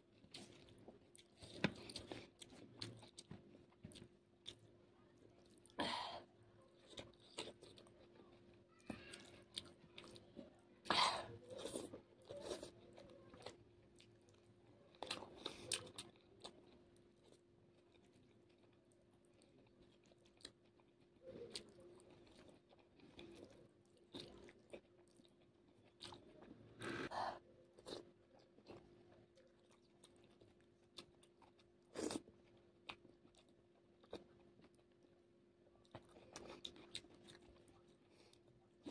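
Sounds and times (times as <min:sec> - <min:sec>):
chewing and crunchy bites: 0:00.0 - 0:05.8, 0:06.6 - 0:38.9.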